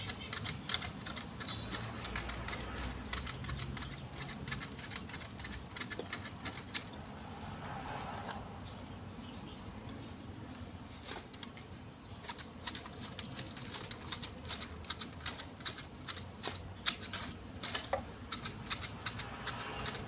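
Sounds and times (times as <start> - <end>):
hedge shears snipping: 0.0 - 7.0, 11.0 - 20.0.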